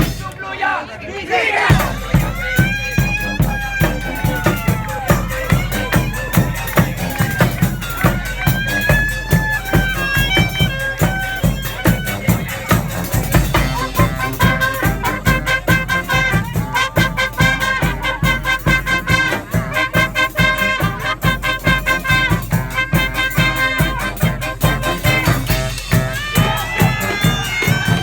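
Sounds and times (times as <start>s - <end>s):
steady drum beat: 0.0s - 0.4s, 1.7s - 28.0s
marching band playing: 0.0s - 28.0s.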